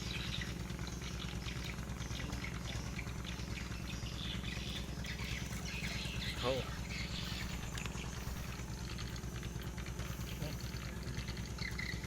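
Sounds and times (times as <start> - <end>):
faint bird chirps: 0.0 - 12.0
steady low rumble: 0.0 - 12.0.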